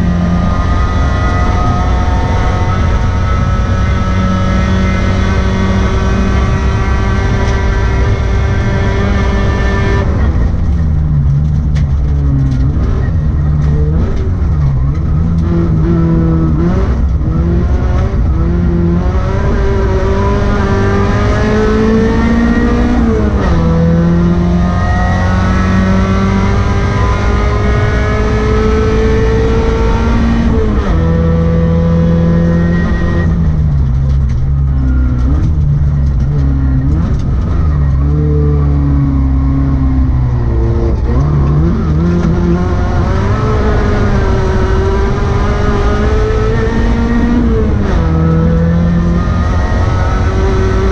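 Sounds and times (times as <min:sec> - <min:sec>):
rally car engine accelerating: 0:00.0 - 0:50.9.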